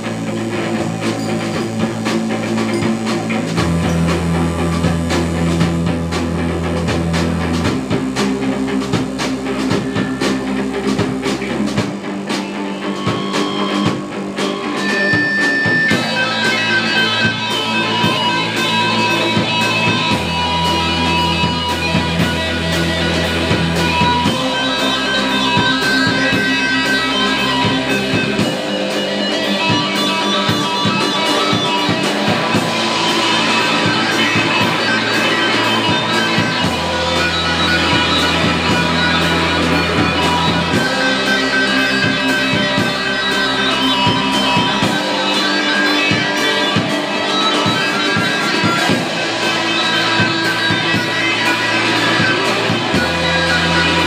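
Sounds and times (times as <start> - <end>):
deep held bass notes: 0.0 - 54.0
drum kit: 0.0 - 54.0
electric guitars: 0.0 - 54.0
synthesizer: 0.0 - 54.0.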